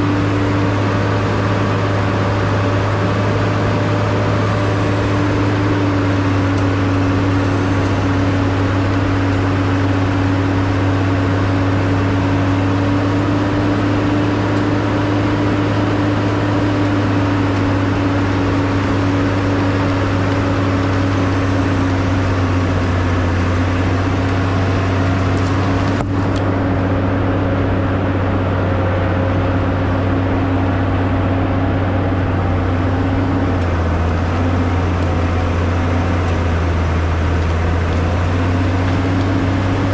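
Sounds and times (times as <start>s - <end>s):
snowcat engine droning: 0.0s - 39.9s.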